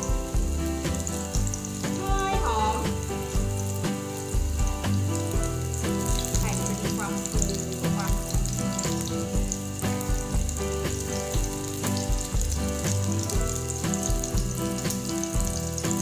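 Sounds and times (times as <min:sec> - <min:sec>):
background music with steady beat: 0:00.0 - 0:16.0
food sizzling in oil: 0:00.0 - 0:16.0.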